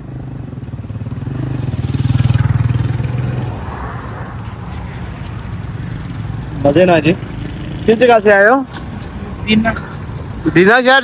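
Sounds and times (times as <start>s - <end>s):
vehicle engine passing by: 0.0s - 10.3s
steady traffic hum: 0.0s - 11.0s.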